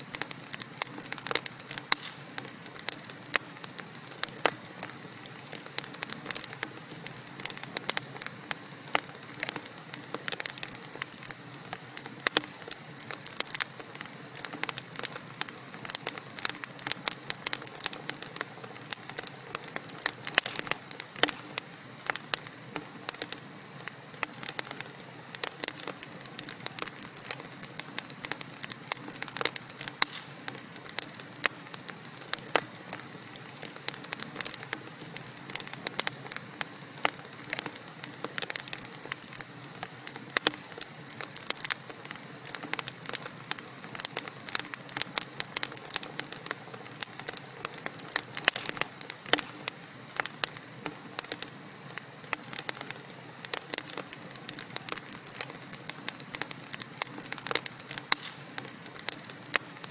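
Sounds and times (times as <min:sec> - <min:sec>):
low hiss of flame: 0:00.0 - 0:59.9
wood fire crackling and popping: 0:00.0 - 0:59.9.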